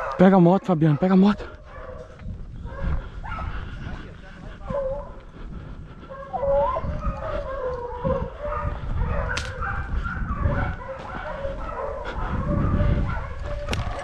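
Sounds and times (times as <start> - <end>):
dogs baying and yelping: 0.0 - 14.0.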